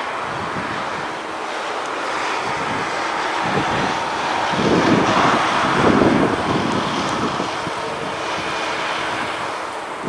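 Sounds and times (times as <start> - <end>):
distant jet engines rushing: 0.0 - 10.0
wind buffeting microphone: 0.0 - 10.0.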